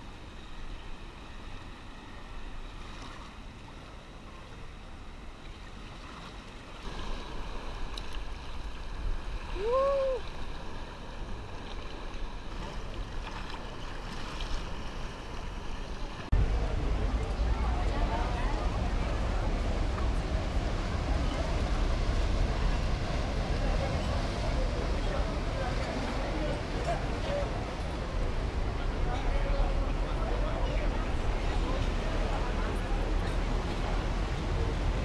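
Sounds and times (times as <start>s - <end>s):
sea surf washing over rocks: 6.5s - 35.0s.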